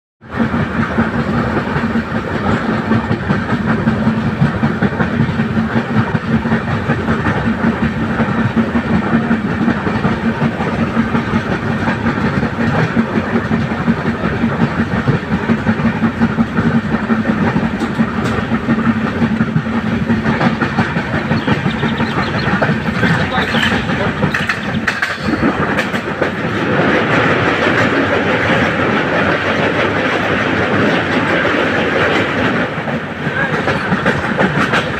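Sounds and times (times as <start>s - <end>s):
train wheels rumbling on rails: 0.2s - 34.9s.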